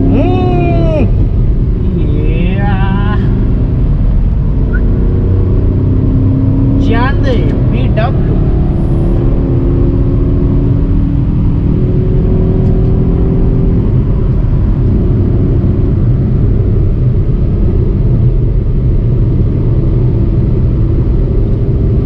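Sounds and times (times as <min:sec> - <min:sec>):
diesel car engine accelerating: 0:00.0 - 0:22.0
road and tyre rumble: 0:00.0 - 0:22.0.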